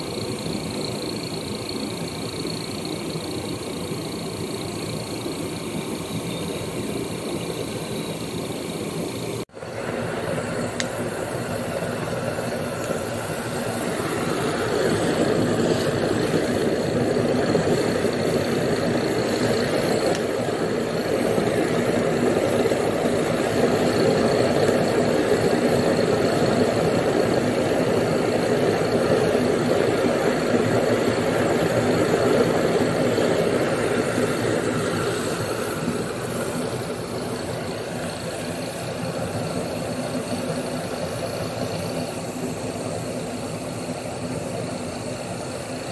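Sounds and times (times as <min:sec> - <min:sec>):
oil burner rushing: 0:00.0 - 0:45.9.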